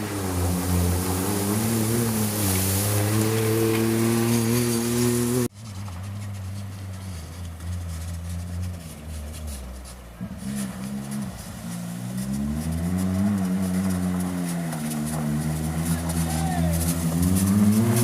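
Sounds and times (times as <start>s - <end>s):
race car engine running: 0.0s - 18.0s.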